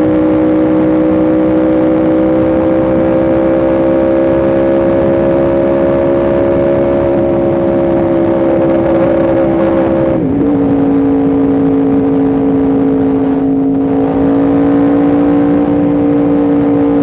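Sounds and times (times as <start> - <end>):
motorcycle engine running: 0.0 - 17.0
wind and road rush: 0.0 - 17.0.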